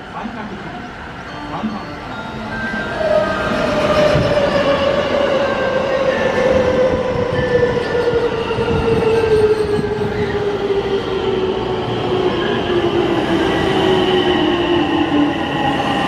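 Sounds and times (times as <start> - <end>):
train rolling on track: 0.0 - 16.0.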